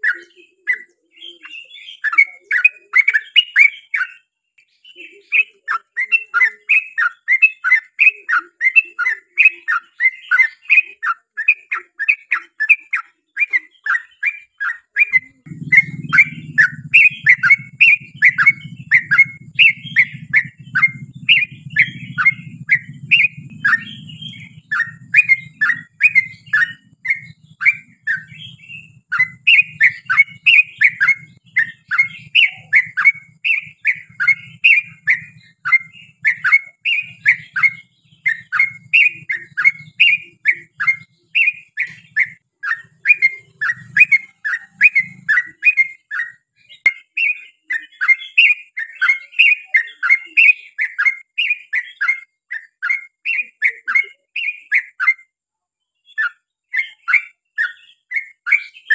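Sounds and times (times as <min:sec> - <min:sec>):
bird singing bubbly chirps: 0:00.0 - 0:55.3.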